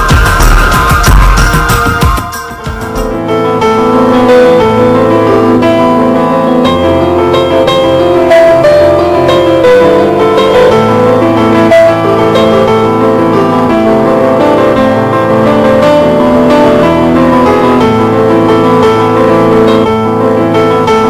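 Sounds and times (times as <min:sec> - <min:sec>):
piano melody over chords: 0:00.0 - 0:21.0.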